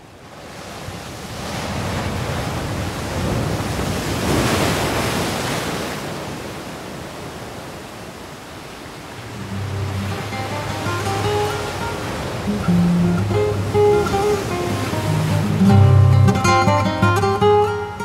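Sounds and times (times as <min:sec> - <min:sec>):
sea waves washing in: 0:00.0 - 0:18.0.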